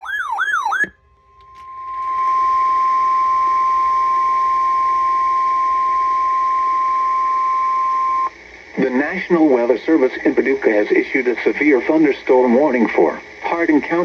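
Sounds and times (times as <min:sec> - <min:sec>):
steady weather radio alarm tone: 0:00.0 - 0:14.0
radio hiss: 0:01.5 - 0:14.0.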